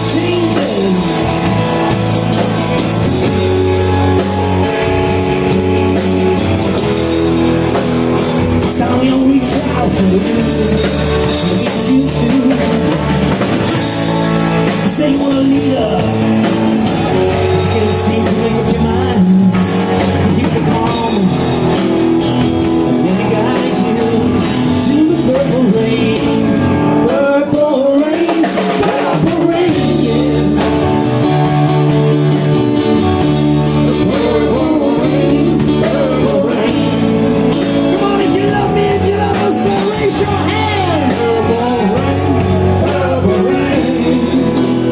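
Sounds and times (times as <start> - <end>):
bass: 0.0 - 44.9
drum kit: 0.0 - 44.9
live rock band playing: 0.0 - 44.9.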